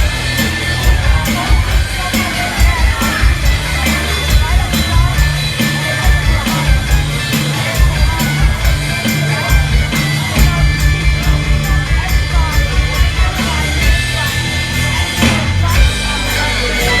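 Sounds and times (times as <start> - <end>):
live rock band playing: 0.0 - 17.0
steady drum beat: 0.0 - 17.0.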